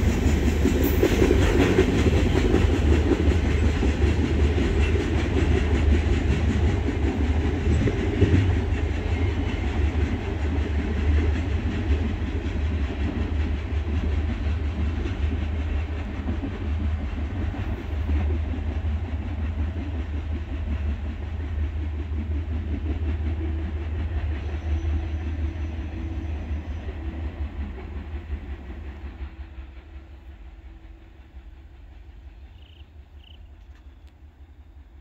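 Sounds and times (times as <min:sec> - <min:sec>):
freight train rumbling on rails: 0:00.0 - 0:35.0.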